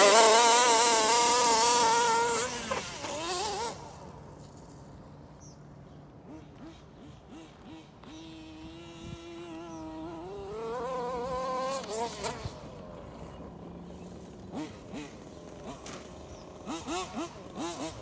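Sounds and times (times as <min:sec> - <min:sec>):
rc car throttle blips: 0:00.0 - 0:04.6, 0:06.3 - 0:12.7, 0:14.0 - 0:18.0
rc car motor buzzing: 0:00.0 - 0:05.0, 0:06.3 - 0:18.0.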